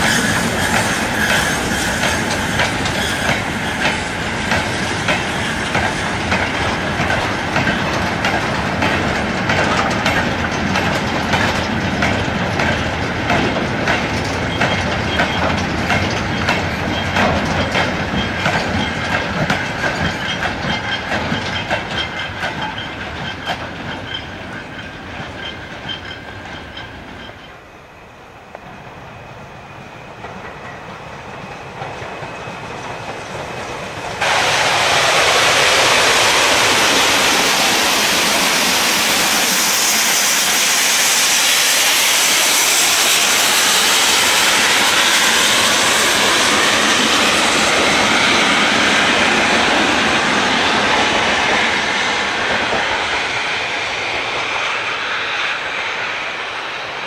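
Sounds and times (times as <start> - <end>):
train wheels clicking over rail joints: 0.0 - 27.7, 30.1 - 57.0.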